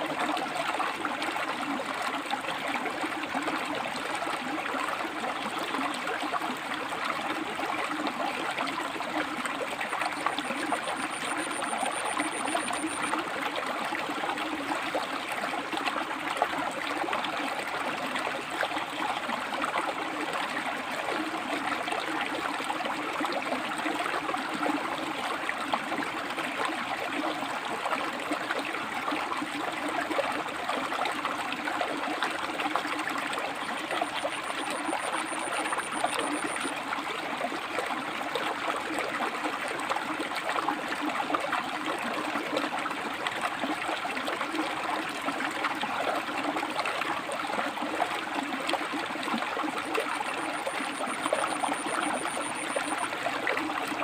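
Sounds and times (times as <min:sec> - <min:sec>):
river water splashing over rocks: 0:00.1 - 0:54.0.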